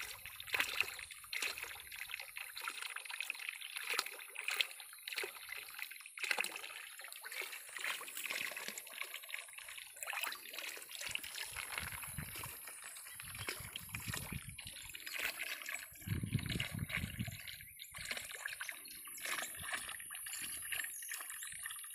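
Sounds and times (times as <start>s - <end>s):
water sloshing and trickling: 0.0s - 21.9s.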